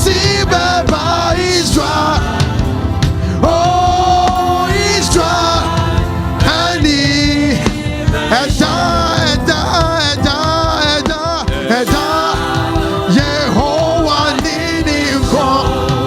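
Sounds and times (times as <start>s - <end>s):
worship music with singer: 0.0s - 16.0s.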